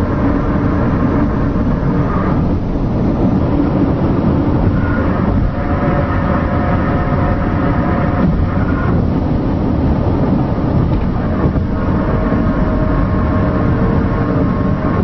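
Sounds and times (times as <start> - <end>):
car driving on highway: 0.0 - 15.0
faint droning tones: 0.0 - 15.0.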